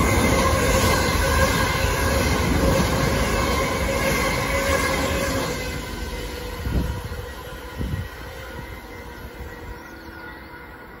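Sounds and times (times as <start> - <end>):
electric train rumble and hum: 0.0 - 11.0.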